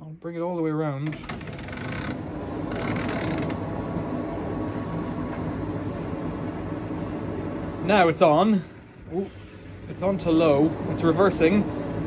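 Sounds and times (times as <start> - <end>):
tumble dryer running: 1.1 - 12.0.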